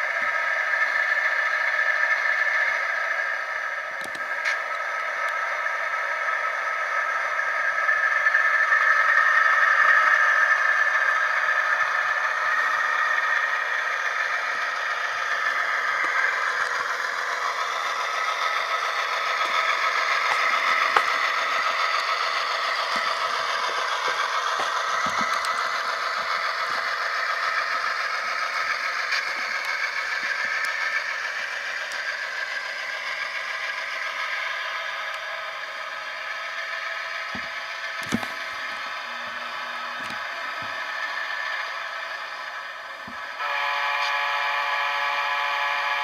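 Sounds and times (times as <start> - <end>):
diesel engine sound from small speaker: 0.0 - 46.0
train wheels clattering on track: 0.0 - 46.0.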